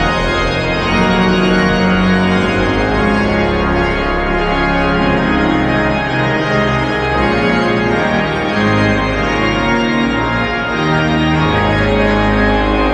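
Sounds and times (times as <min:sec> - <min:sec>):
pipe organ chords: 0:00.0 - 0:12.9.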